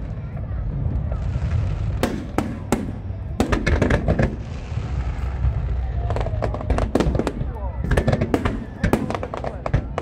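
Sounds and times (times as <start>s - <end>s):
steady low rumble: 0.0s - 10.0s
firework crackling pops: 1.0s - 10.0s
distant firework bangs: 1.4s - 10.0s.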